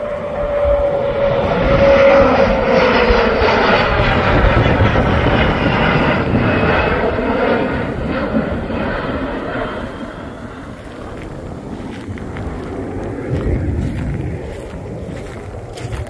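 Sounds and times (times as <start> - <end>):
jet fighter roaring overhead: 0.0 - 16.0.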